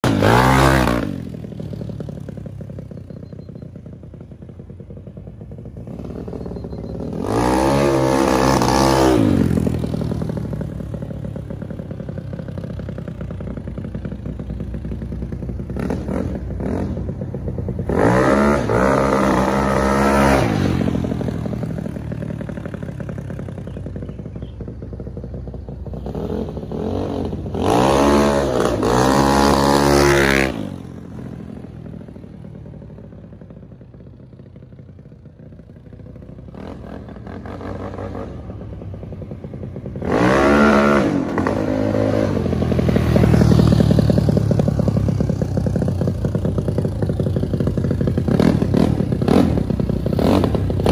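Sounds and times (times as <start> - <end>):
scooter engine idling and revving: 0.0 - 50.9.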